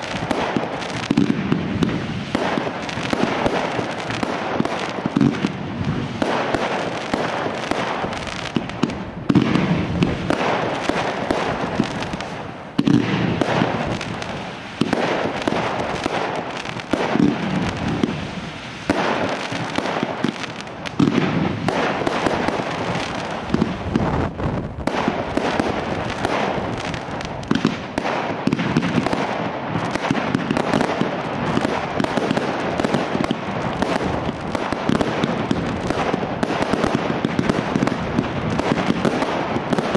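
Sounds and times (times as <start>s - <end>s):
fireworks crackling: 0.0s - 39.9s
loud firework bangs: 0.0s - 39.9s.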